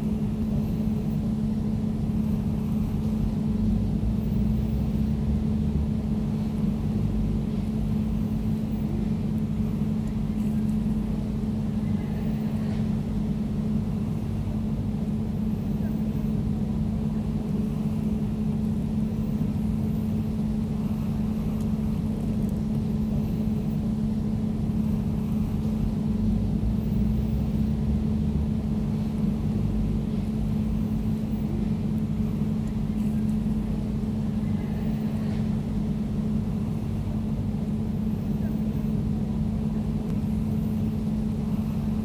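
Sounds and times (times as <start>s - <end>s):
air conditioner humming: 0.0s - 42.0s.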